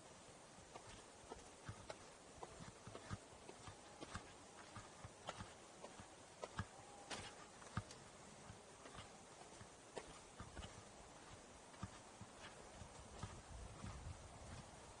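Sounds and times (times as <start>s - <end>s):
footsteps crunching on forest trail: 0.0s - 15.0s.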